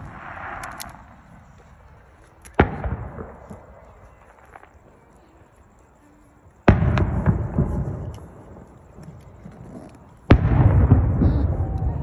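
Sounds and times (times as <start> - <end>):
firework rumble: 0.0 - 12.0.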